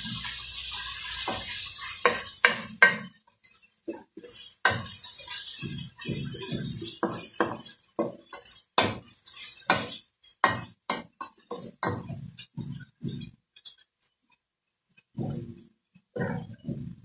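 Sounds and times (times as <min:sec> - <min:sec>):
frying food sizzling: 0:00.0 - 0:17.0
wooden spoon scraping metal pot: 0:00.0 - 0:17.0.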